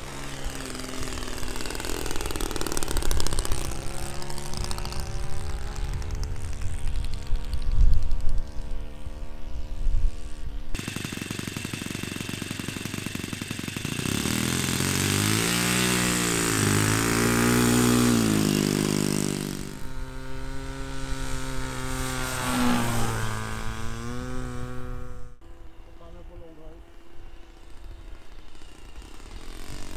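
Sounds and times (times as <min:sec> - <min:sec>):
model airplane engine: 0:00.0 - 0:29.9.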